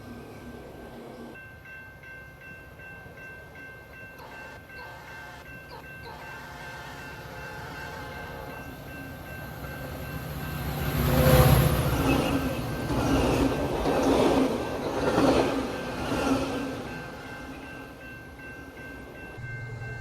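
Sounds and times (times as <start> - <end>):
passenger train passing: 0.0 - 20.0.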